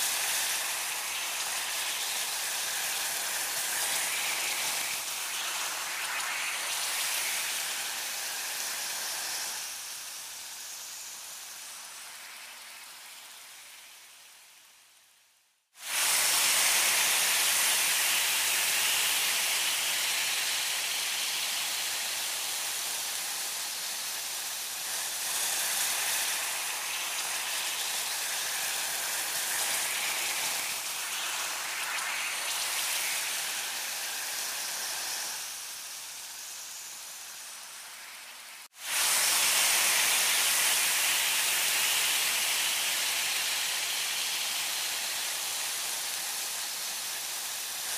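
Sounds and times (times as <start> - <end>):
meat sizzling on grill: 0.0 - 12.9, 15.8 - 47.9.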